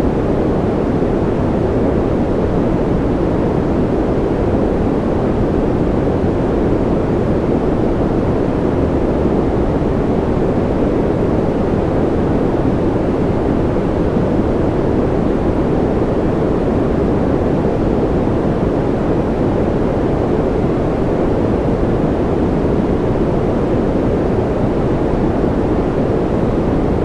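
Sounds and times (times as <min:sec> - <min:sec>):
low white noise rumble: 0:00.0 - 0:27.0.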